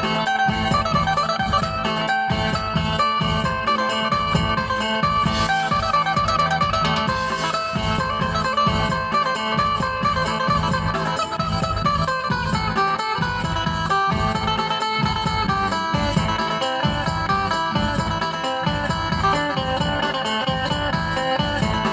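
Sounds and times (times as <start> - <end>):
plucked lute melody: 0.0 - 21.9
steady beat: 0.0 - 21.9.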